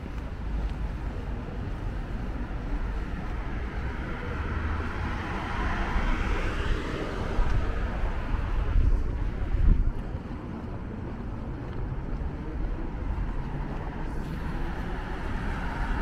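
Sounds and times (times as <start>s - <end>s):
car passing: 1.1s - 16.0s.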